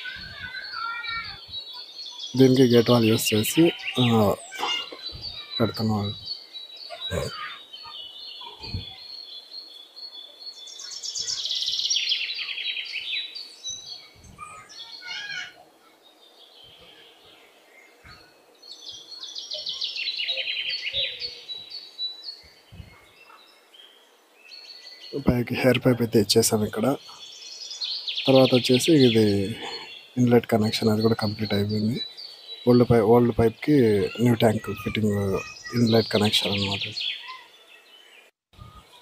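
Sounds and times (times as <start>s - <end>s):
bird singing descending trill: 0.0s - 39.0s.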